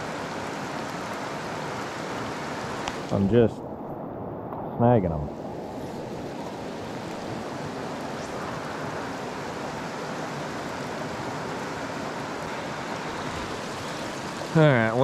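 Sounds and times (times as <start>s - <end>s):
river water rushing: 0.0s - 4.0s, 5.3s - 15.0s.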